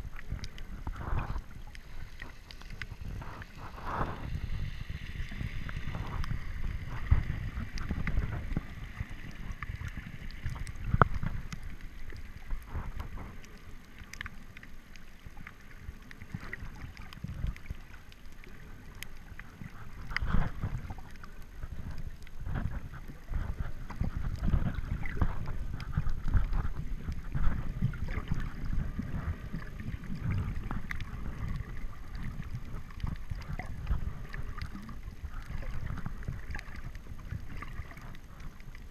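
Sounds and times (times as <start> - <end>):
muffled underwater rumble: 0.0 - 38.9
sharp clicks underwater: 0.0 - 38.9.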